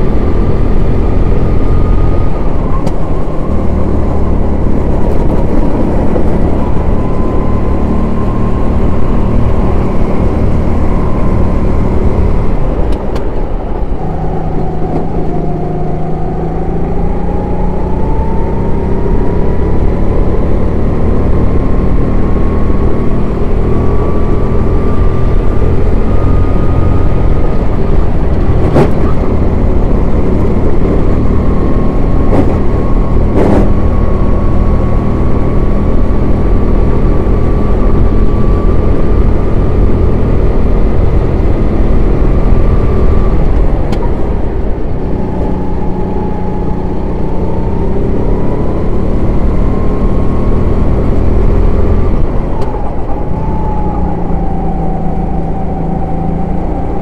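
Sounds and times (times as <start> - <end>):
kart engine at full throttle: 0.0 - 57.0.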